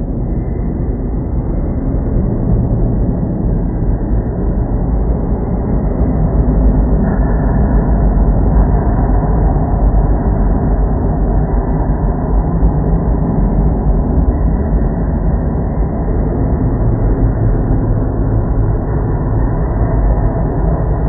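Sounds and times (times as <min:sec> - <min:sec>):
muffled rumbling noise music: 0:00.0 - 0:21.0.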